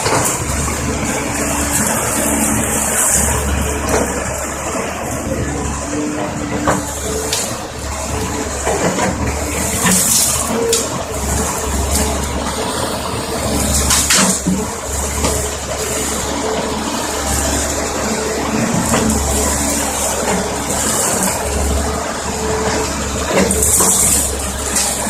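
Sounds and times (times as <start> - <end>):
excavator engine and hydraulics: 0.0 - 25.0.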